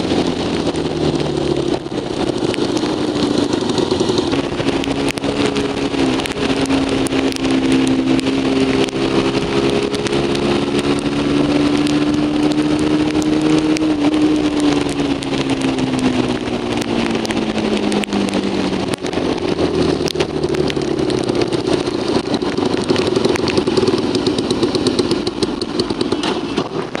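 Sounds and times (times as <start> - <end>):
motorcycle engine running: 0.0 - 27.0
steady rushing noise: 0.0 - 27.0.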